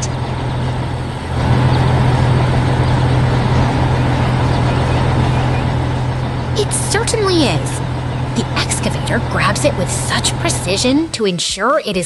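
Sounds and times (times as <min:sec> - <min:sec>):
construction machine engine drone: 0:00.0 - 0:12.0.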